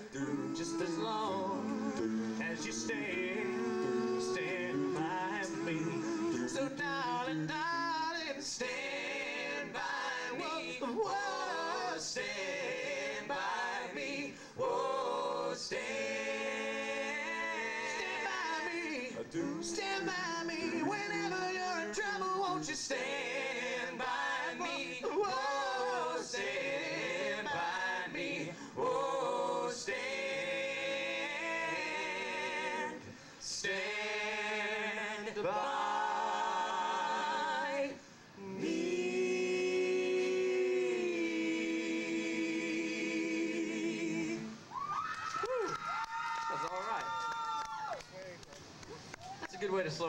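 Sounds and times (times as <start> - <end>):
male vocal group singing harmony: 0.0 - 44.7.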